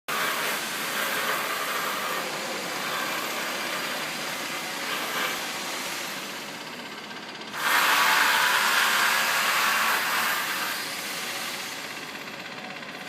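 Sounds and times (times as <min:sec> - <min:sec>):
construction machinery din: 0:00.1 - 0:13.0.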